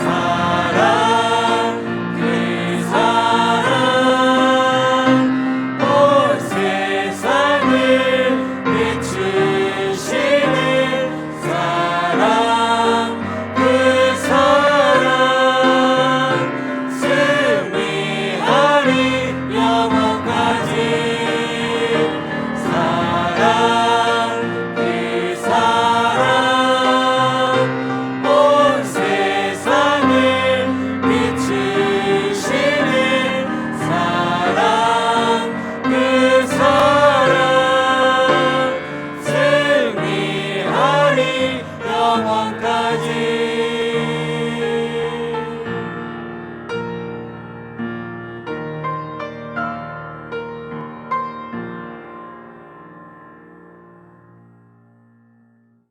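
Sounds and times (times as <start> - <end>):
choir singing a hymn: 0.0 - 47.9.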